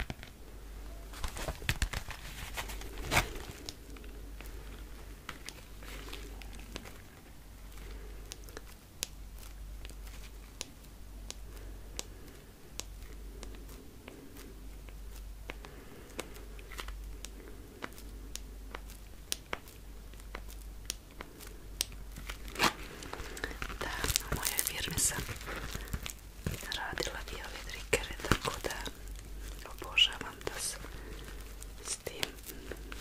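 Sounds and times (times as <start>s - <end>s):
soft rubbing and crinkling: 0.0s - 33.0s.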